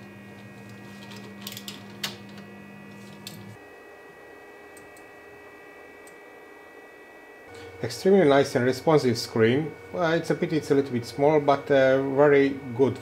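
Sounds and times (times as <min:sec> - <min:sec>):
stepper motors humming: 0:00.0 - 0:13.0.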